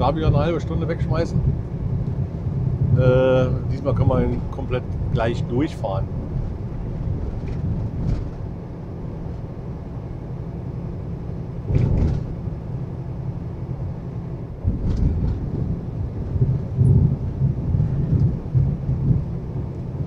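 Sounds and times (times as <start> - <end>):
diesel truck engine drone: 0.0 - 20.0
road noise: 0.0 - 20.0.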